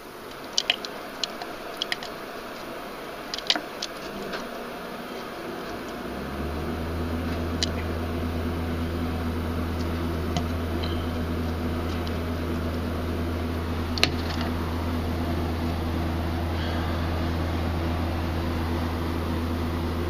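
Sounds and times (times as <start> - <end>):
machine low hum: 0.0 - 20.0.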